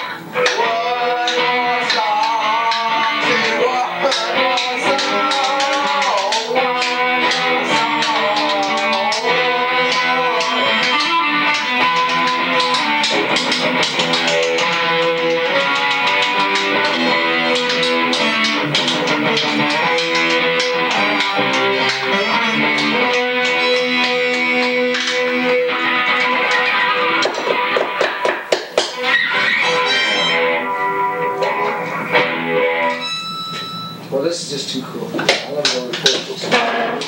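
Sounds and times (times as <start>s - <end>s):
electric guitar rock chords: 0.0s - 34.1s, 35.4s - 37.0s.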